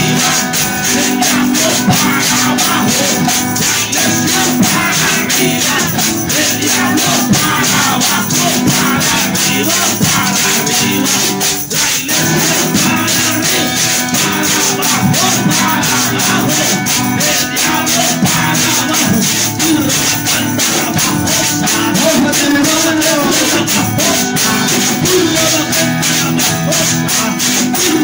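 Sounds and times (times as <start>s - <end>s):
hand percussion rattling: 0.0s - 28.0s
man singing into microphone: 0.0s - 28.0s
strummed acoustic guitar: 0.0s - 28.0s.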